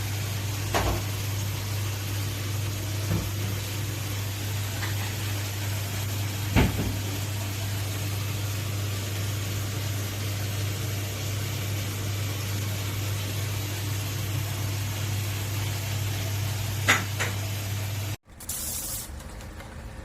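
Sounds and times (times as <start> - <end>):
low machine hum: 0.0 - 18.2.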